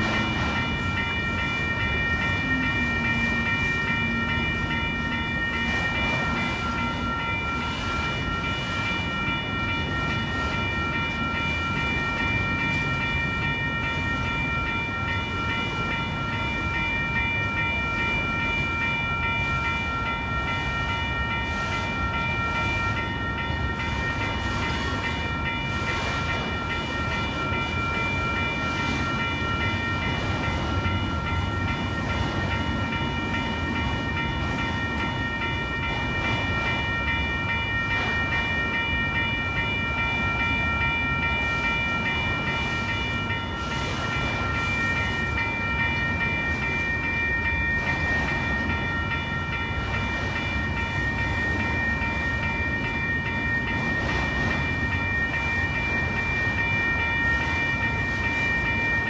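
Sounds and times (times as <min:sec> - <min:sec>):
crossing bells ringing: 0:00.0 - 0:59.0
freight train rumbling on rails: 0:00.0 - 0:59.0.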